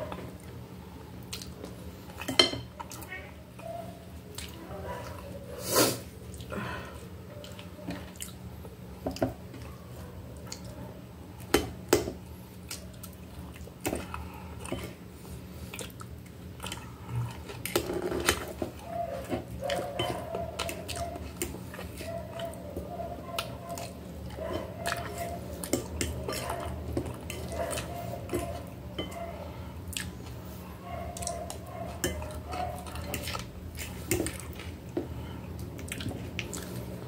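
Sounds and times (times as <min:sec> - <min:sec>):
chewing and wet mouth sounds: 0:00.0 - 0:05.4, 0:06.0 - 0:37.0.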